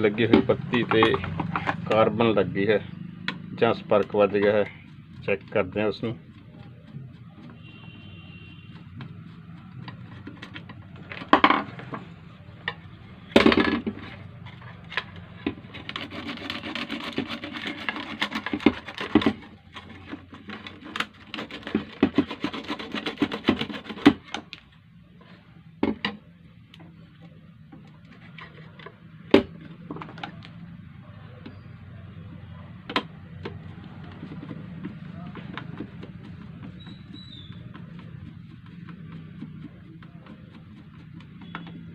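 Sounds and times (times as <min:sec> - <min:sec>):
rubbing and scraping: 0:00.0 - 0:02.9, 0:03.5 - 0:24.5, 0:27.8 - 0:30.5, 0:32.3 - 0:41.9.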